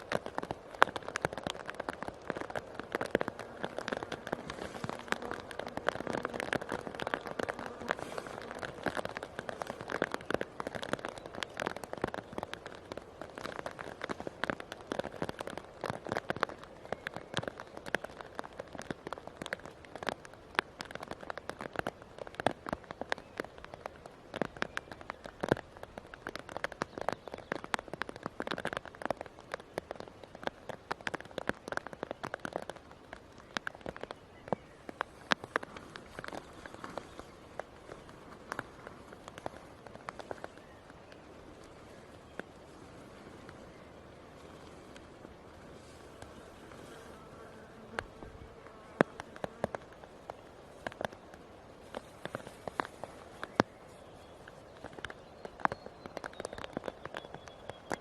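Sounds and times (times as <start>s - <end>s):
raindrops ticking on surface: 0.0s - 58.0s
steady rain: 0.0s - 58.0s.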